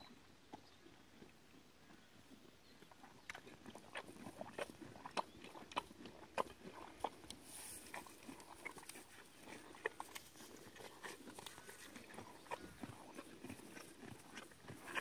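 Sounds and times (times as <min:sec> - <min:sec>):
pony chewing dry hay: 0:00.6 - 0:15.0.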